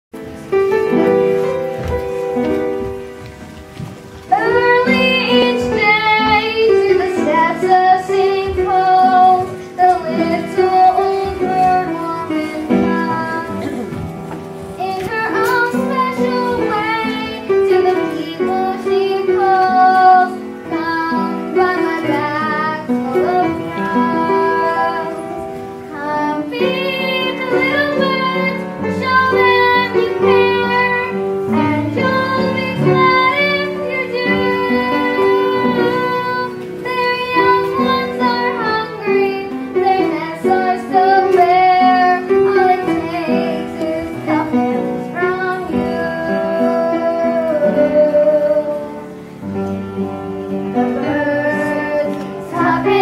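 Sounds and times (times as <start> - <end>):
instrumental accompaniment: 0.1 - 53.0
high-voiced singer slow melody: 4.3 - 14.1, 14.7 - 53.0.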